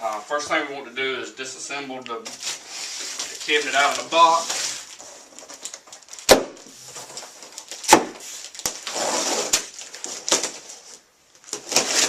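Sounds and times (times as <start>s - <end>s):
packing rustling and scraping: 2.3s - 12.0s.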